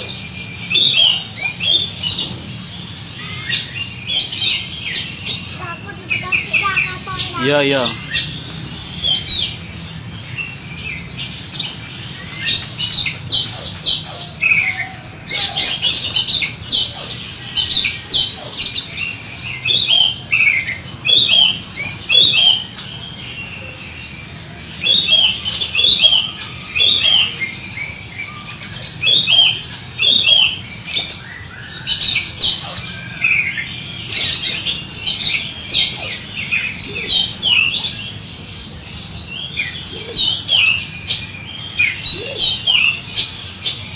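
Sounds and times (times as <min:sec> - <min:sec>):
songbird singing harsh phrases: 0:00.0 - 0:43.9.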